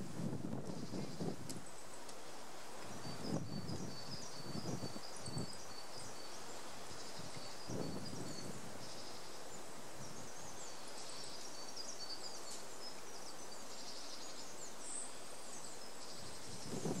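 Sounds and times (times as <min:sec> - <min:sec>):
outdoor hiss: 0:00.0 - 0:17.0
rustle: 0:00.0 - 0:17.0
small birds twittering: 0:00.6 - 0:17.0.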